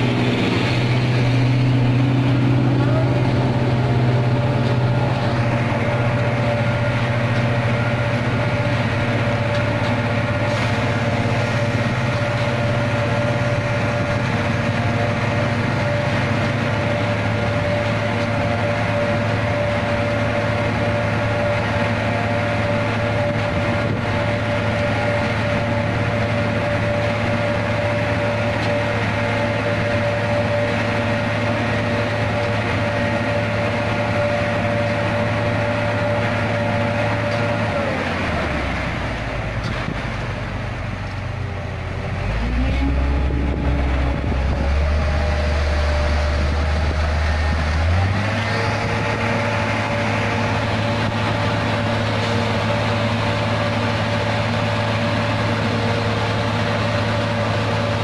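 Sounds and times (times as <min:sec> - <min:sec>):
diesel truck engine running: 0:00.0 - 0:58.0
steady whine: 0:00.0 - 0:58.0.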